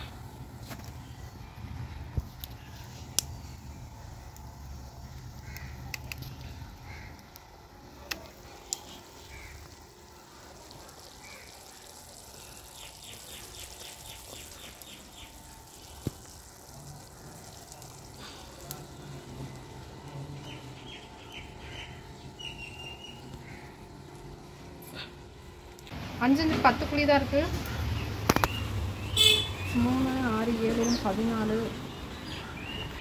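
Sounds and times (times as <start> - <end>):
fire cracking: 0.0 - 26.1, 26.7 - 29.2
pot bubbling and sizzling: 0.0 - 33.0.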